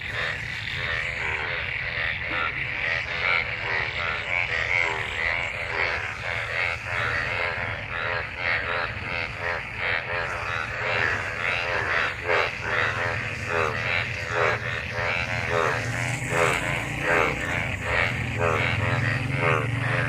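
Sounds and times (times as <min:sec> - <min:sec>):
chorus of frogs croaking: 0:00.0 - 0:20.0.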